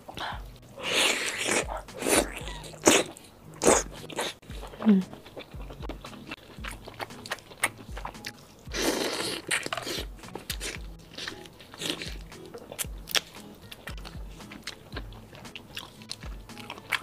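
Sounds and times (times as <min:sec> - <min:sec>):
background music with low beat: 0:00.0 - 0:17.0
wet biting and chewing: 0:00.1 - 0:17.0.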